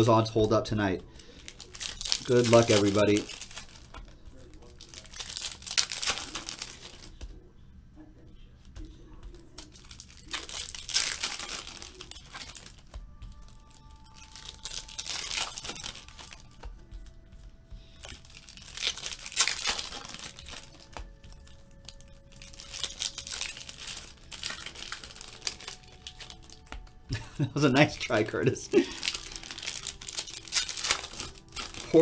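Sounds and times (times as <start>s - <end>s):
foil packs tearing and crinkling: 0.0s - 7.2s, 9.6s - 16.7s, 17.9s - 26.8s, 27.6s - 32.0s
cards being handled: 0.0s - 7.4s, 8.6s - 32.0s.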